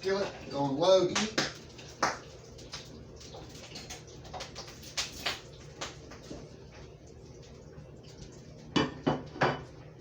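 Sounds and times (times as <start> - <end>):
hot grease popping: 0.0 - 9.8
low sizzle: 0.0 - 10.0.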